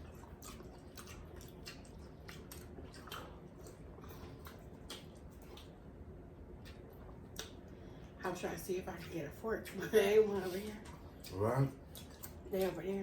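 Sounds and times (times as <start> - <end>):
wet chewing and squishing: 0.0 - 7.9, 10.4 - 13.0.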